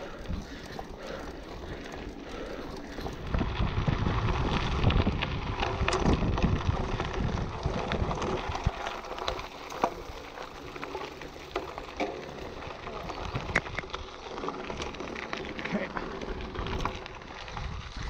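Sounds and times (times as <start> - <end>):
wind rumbling on microphone: 0.0 - 15.6, 16.2 - 18.0
bike clicks and rattles: 0.0 - 18.0
knobby bike tyres on dirt: 0.0 - 18.0.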